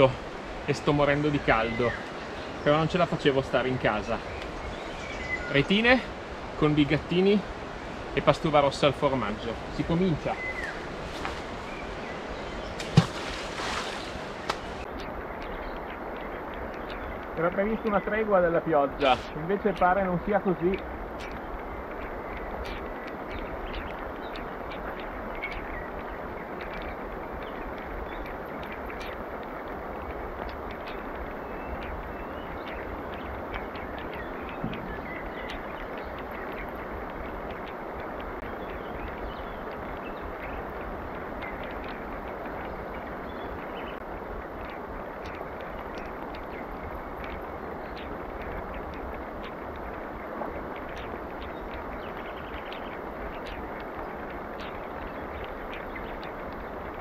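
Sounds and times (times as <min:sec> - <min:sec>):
rain falling on water and leaves: 0:00.0 - 0:57.0.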